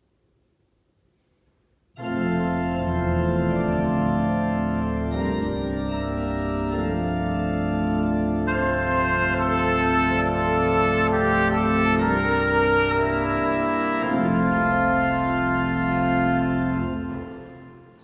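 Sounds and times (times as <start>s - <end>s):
pipe organ chords: 2.0s - 18.0s.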